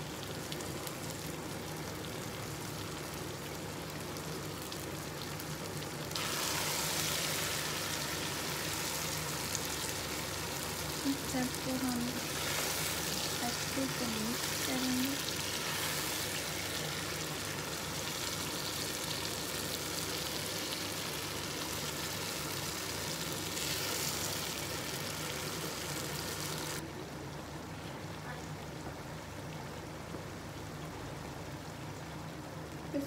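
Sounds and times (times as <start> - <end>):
vegetables sizzling in a wok: 0.0 - 26.8.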